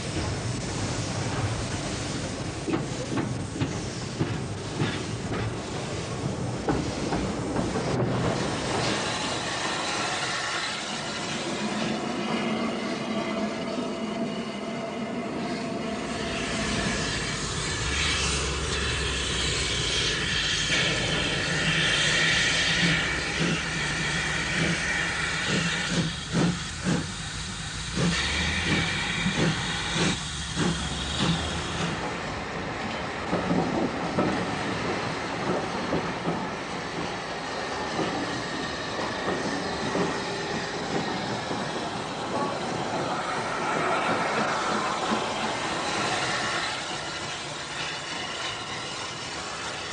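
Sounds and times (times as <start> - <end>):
steam hissing: 0.0 - 49.9
steam locomotive beats: 0.0 - 49.9
train rumble: 0.0 - 49.9.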